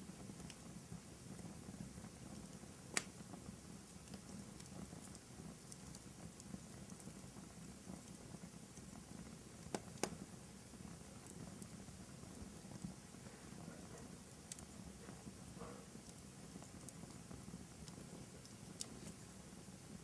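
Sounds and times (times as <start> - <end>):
burning wood popping: 0.0 - 20.0
wood fire burning: 0.0 - 20.0.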